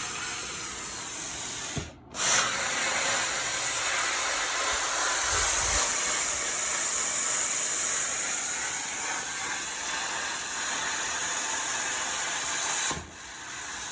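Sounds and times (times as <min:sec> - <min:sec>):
plasma cutter torch hissing: 0:00.0 - 0:13.9.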